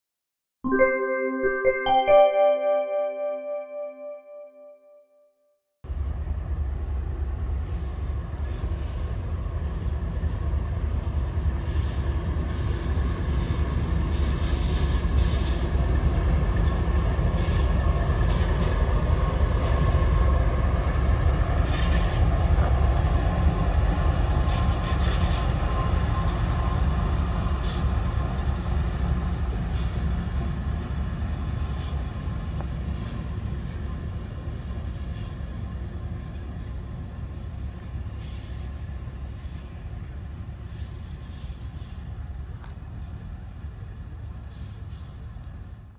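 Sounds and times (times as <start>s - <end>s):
diesel locomotive engine rumble: 5.9s - 45.9s.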